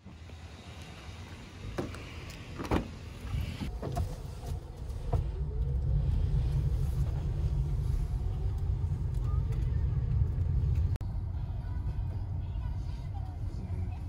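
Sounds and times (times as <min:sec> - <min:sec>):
car rumbling while driving: 0:00.1 - 0:14.0.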